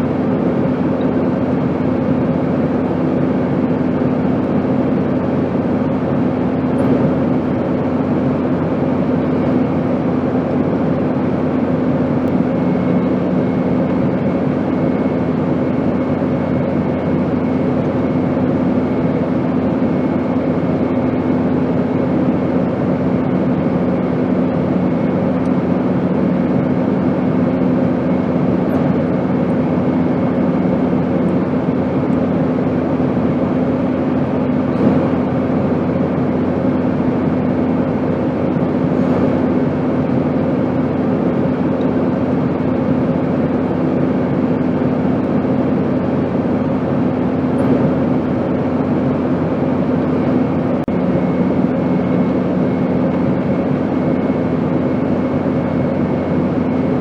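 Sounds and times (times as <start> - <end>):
airplane rush of air: 0.0 - 57.0
constant low hum: 0.0 - 57.0.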